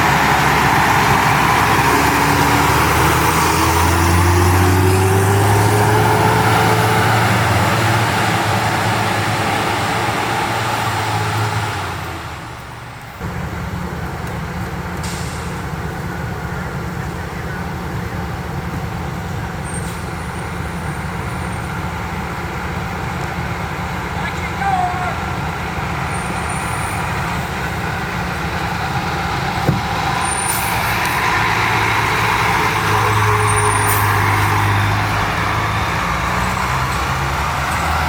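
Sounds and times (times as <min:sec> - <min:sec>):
heavy truck engine pulling away: 0:00.0 - 0:38.0
traffic rumble: 0:00.0 - 0:38.0.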